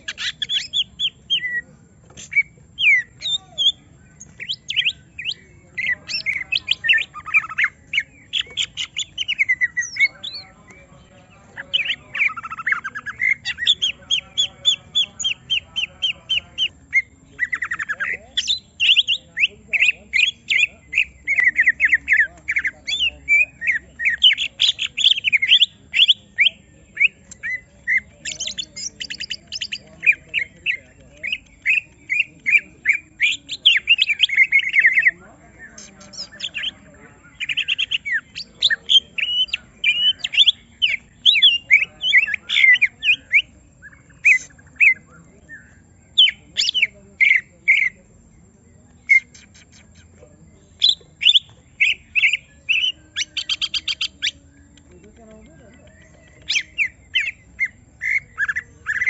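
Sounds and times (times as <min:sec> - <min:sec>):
bird singing fast chirps and trills: 0:00.0 - 0:59.0.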